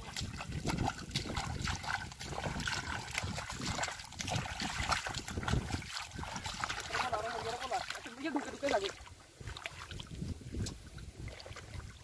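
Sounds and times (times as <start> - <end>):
bare feet splashing in water: 0.0 - 12.0.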